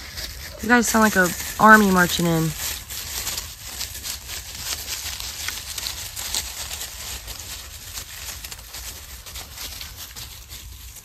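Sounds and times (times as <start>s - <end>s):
paws crunching dry leaves: 0.0s - 11.0s.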